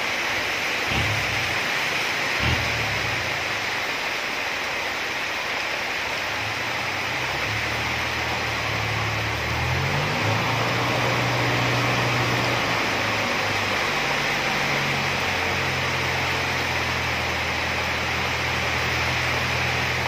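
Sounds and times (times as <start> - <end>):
diesel truck engine droning: 0.0 - 20.0
heavy rain hissing: 0.0 - 20.0.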